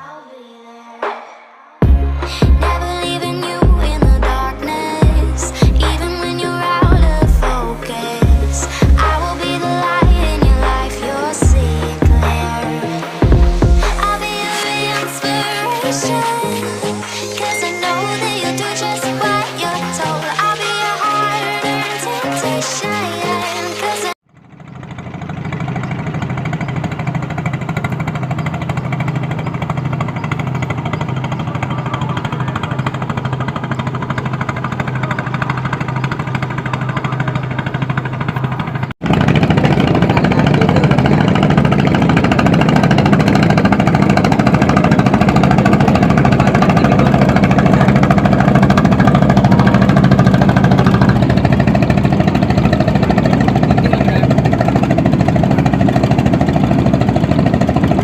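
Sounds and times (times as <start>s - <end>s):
boat engine knocking: 1.8s - 14.9s, 24.2s - 58.0s.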